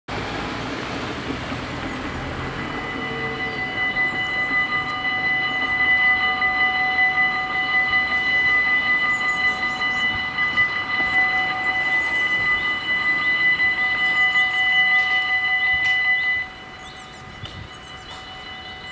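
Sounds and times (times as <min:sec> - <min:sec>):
level crossing warning bells: 0:00.1 - 0:18.9
road traffic noise: 0:00.1 - 0:18.9.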